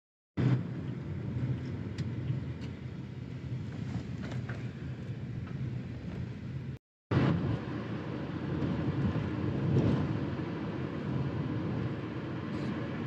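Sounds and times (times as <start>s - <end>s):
car engine hum: 0.4s - 13.0s
road noise inside car: 0.4s - 13.0s.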